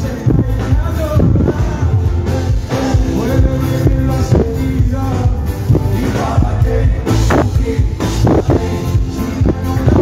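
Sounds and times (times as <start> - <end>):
live rumba band music: 0.0 - 10.0.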